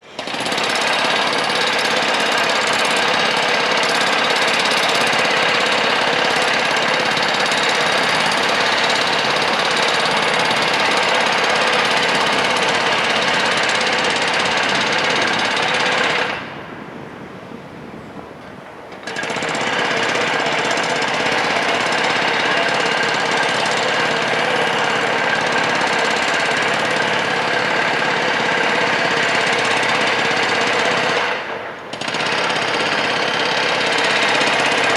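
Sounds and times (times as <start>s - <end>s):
jackhammer rattling: 0.0s - 16.5s, 18.9s - 34.9s.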